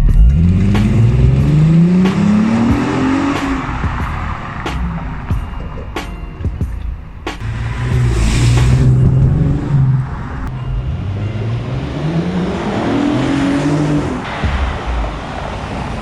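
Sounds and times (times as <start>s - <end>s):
car engine exhaust under throttle: 0.0s - 16.0s.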